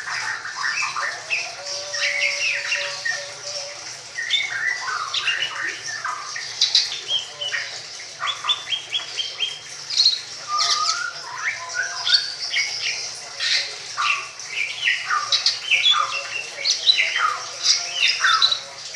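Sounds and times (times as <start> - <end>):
songbird singing: 0.0 - 18.9.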